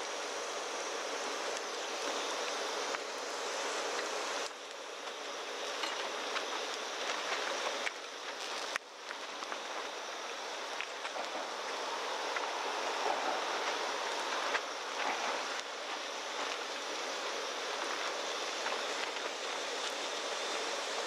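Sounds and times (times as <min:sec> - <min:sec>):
food sizzling in a wok: 0:00.0 - 0:21.0.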